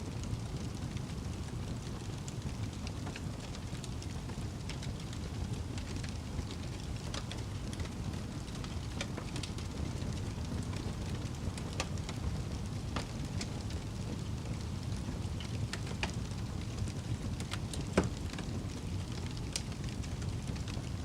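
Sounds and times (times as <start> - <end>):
wood crackling in campfire: 0.0 - 21.0.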